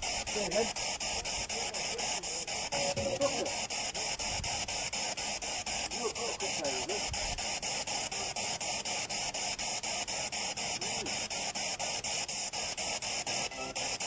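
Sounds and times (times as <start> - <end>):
chopped radio static: 0.0 - 14.0.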